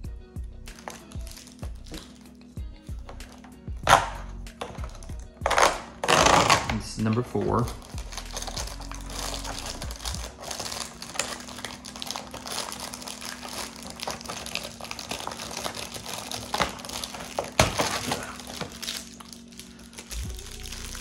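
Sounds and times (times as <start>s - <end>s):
packaging crinkling and rustling: 0.7s - 2.4s, 3.1s - 21.0s.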